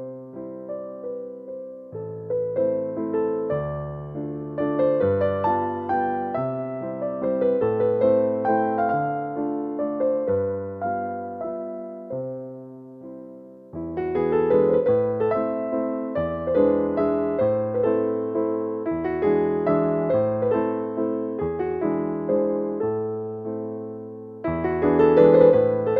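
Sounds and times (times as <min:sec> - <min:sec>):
solo electric piano melody: 0:00.0 - 0:25.9.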